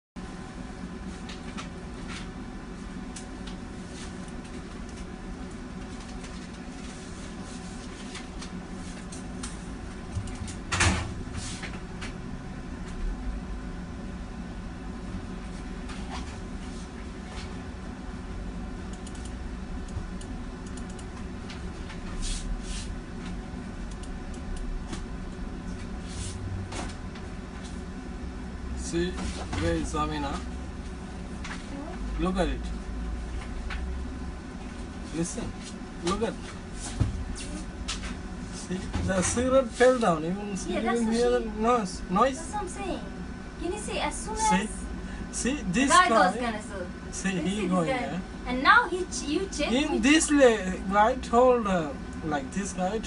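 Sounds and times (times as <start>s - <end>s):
low room hum: 0.2s - 53.0s.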